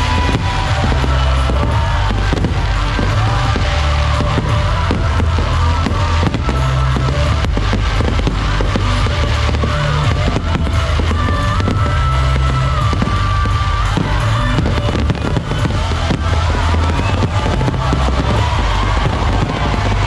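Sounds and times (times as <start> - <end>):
fireworks bursting and crackling: 0.0 - 20.0
loud music with heavy bass: 0.0 - 20.0.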